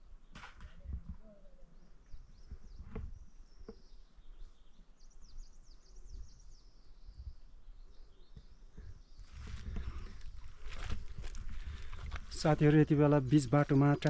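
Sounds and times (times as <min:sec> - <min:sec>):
birds chirping: 0:01.0 - 0:14.0.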